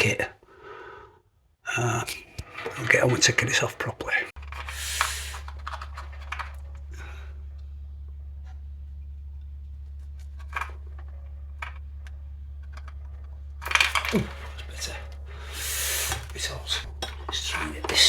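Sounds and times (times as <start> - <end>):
steady low hum: 1.7 - 18.0.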